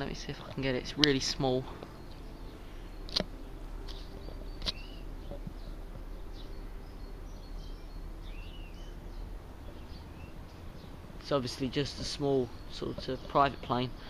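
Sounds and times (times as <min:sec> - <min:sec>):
low outdoor hum: 0:00.0 - 0:14.0
small birds chirping: 0:00.0 - 0:14.0.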